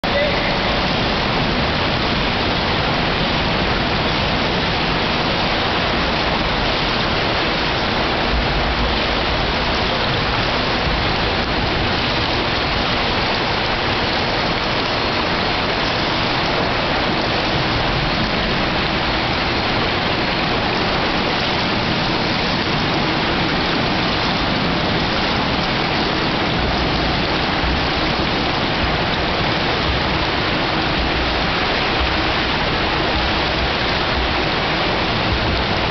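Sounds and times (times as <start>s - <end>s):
rushing water in swimming pool: 0.0s - 35.9s.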